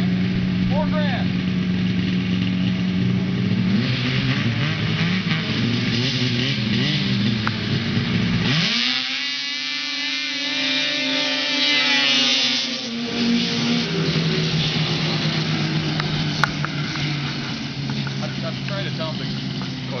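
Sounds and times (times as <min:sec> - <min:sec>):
snowmobile engines revving: 0:00.0 - 0:20.0.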